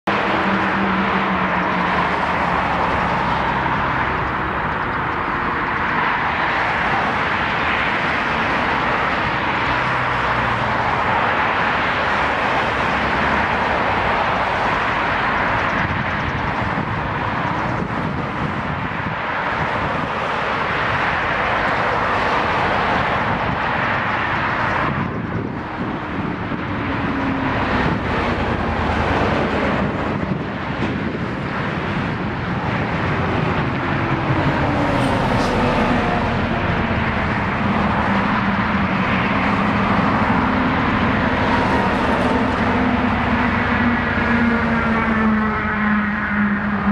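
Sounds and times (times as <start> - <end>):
jet airliner rushing noise: 0.1 - 46.9.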